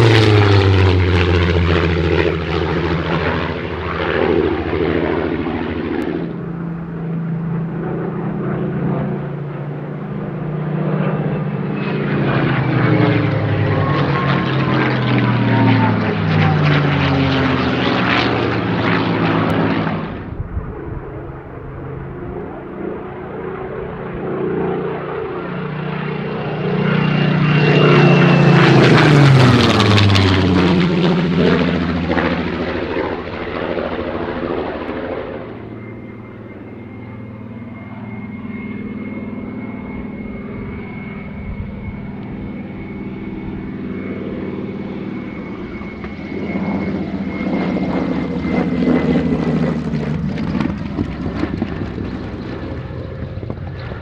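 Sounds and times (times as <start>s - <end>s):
propeller aircraft engine passing: 0.0s - 54.0s.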